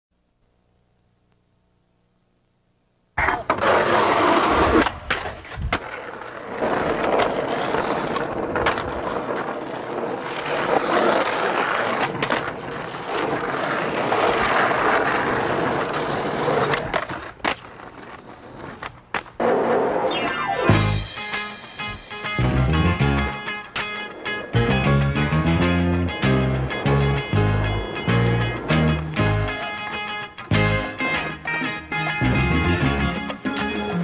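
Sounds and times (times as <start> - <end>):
skateboard wheels rolling on pavement: 3.2 - 34.0.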